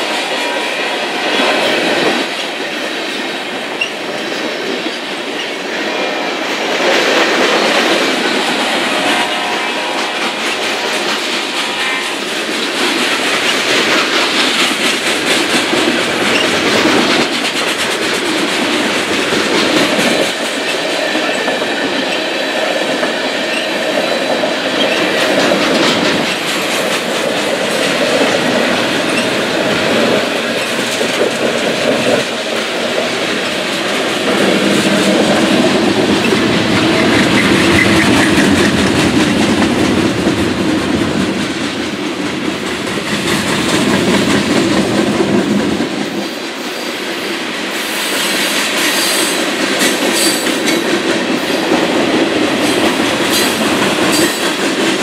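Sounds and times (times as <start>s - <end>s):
freight train cars clattering on rails: 0.0s - 55.0s.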